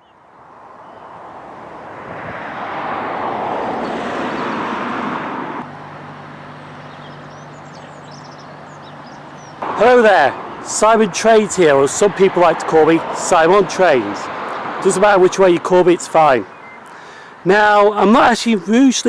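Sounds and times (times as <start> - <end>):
vehicle passing close by: 0.2 - 15.8.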